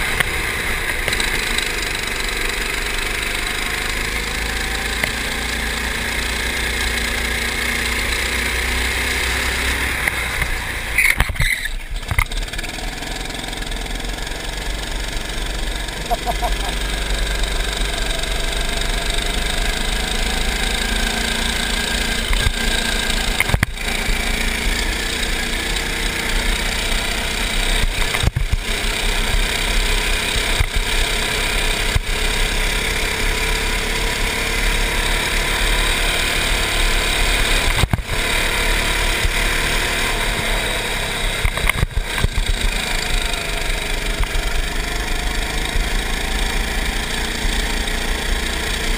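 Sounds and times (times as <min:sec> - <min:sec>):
go-kart engine running: 0:00.0 - 0:48.9.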